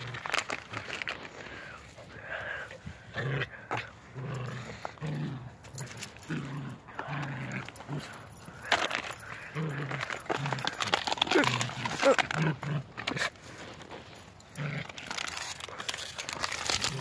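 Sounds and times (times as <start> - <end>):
small dogs growling: 1.4 - 17.0.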